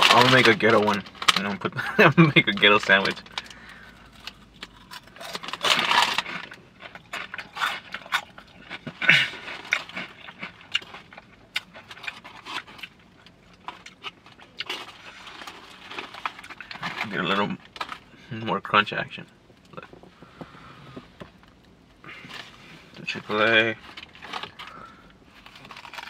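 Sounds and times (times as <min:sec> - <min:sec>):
snack bag crinkling: 0:00.0 - 0:18.1, 0:21.3 - 0:26.0
sandwich wrapper rustling: 0:00.0 - 0:18.2, 0:19.5 - 0:26.0.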